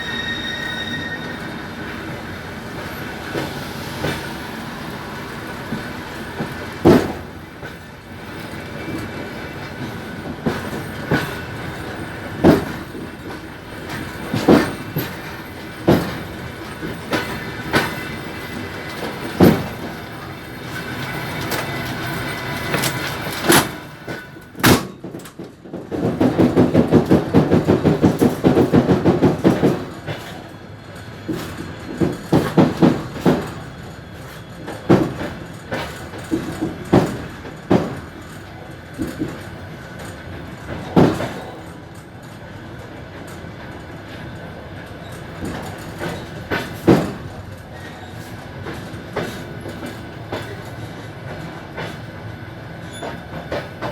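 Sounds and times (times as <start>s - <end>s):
train rolling noise: 0.0s - 53.9s
wheel clacks at rail joints: 0.0s - 53.9s.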